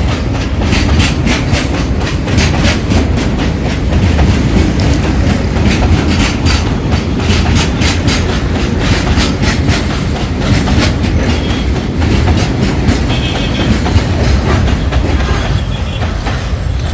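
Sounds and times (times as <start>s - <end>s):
train wheels clacking over rail joints: 0.0s - 16.9s.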